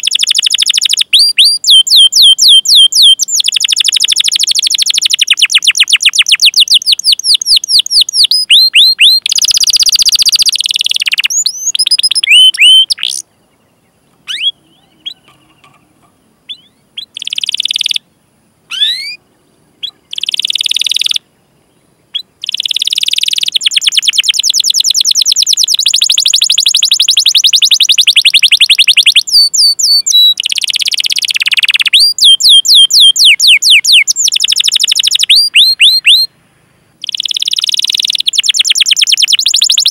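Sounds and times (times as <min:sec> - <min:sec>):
canary chirping and trilling: 0:00.0 - 0:13.2, 0:14.3 - 0:18.0, 0:18.7 - 0:19.2, 0:19.8 - 0:21.2, 0:22.1 - 0:36.3, 0:37.0 - 0:39.9.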